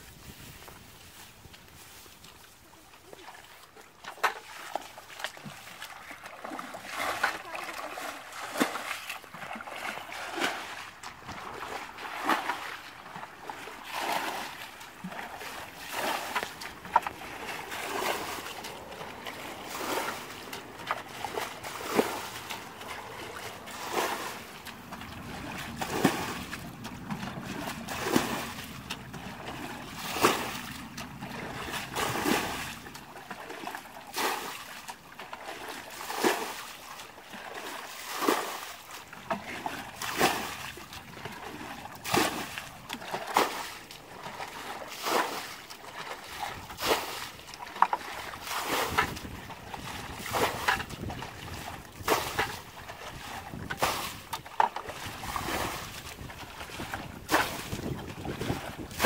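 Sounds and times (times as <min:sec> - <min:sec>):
water splashing from bucket: 0:03.0 - 0:59.0.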